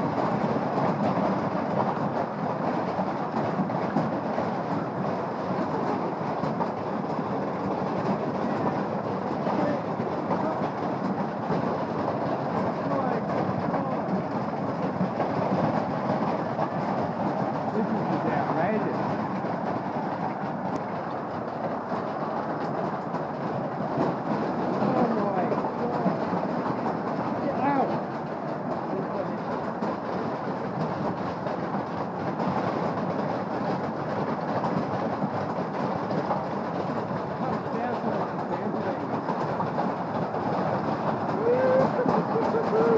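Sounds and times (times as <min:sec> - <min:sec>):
hailstones clattering: 0:00.0 - 0:42.9.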